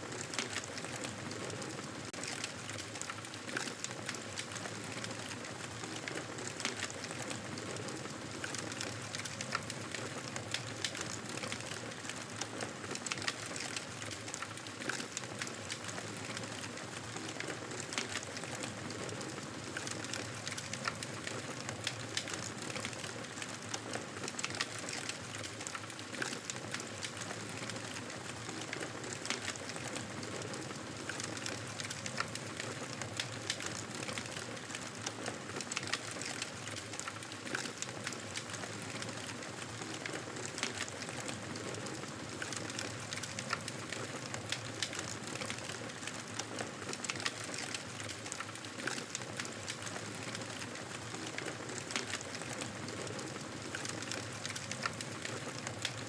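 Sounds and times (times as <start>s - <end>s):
campfire crackling and popping: 0.1s - 56.0s.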